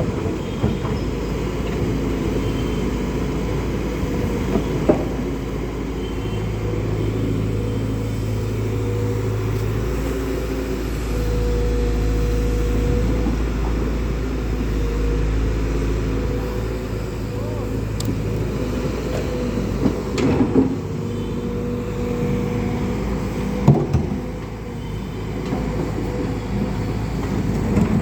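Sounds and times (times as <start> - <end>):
road rumble: 0.0 - 28.0
truck engine running: 0.0 - 28.0.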